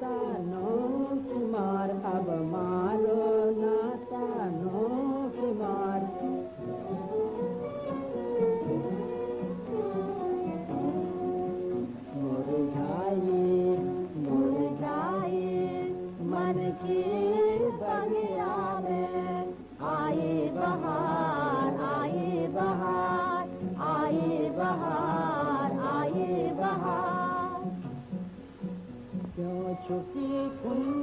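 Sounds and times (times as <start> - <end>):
woman singing: 0.0 - 7.6, 8.2 - 27.8, 29.2 - 31.0
instrumental accompaniment: 0.0 - 31.0.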